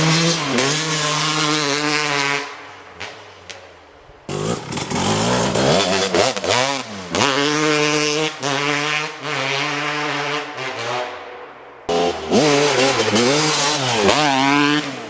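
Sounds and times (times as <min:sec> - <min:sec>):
dirt bike engine revving: 0:00.0 - 0:03.2, 0:04.3 - 0:15.0.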